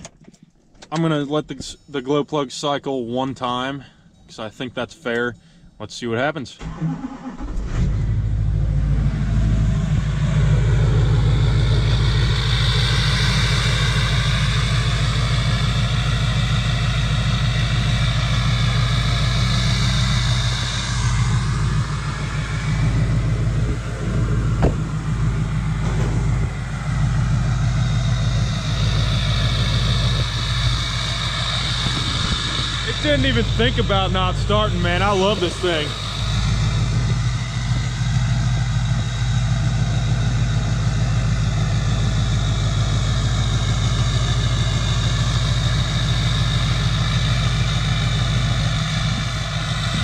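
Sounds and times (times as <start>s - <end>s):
diesel engine idling: 0.0s - 50.0s
high engine whine: 0.0s - 50.0s.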